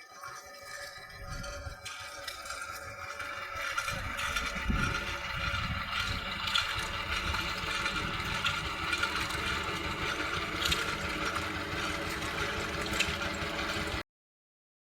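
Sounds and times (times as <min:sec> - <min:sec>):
stationary engine running: 0:00.8 - 0:14.0.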